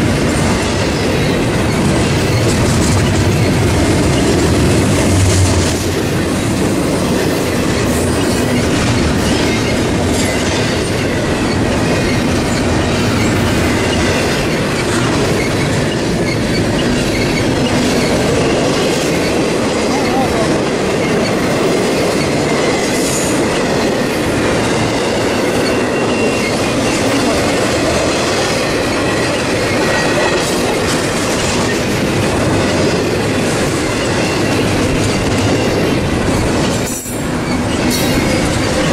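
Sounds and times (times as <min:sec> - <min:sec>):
clacks over rail joints: 0:00.0 - 0:38.9
train wheels rolling on rails: 0:00.0 - 0:38.9.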